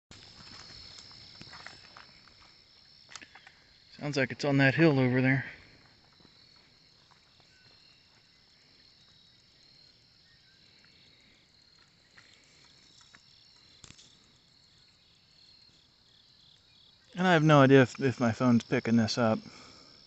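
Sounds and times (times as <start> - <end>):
crickets chirping: 0.1 - 20.0.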